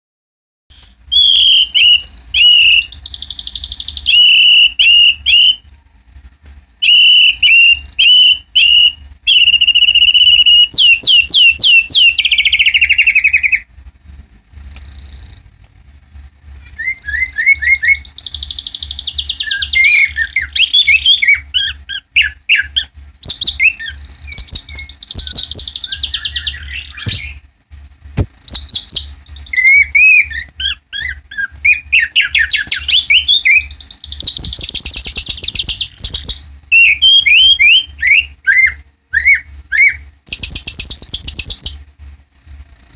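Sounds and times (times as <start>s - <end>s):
bird whistled notes: 0.7s - 15.6s, 16.3s - 42.9s
bird singing buzzy rattling phrases: 0.7s - 42.9s.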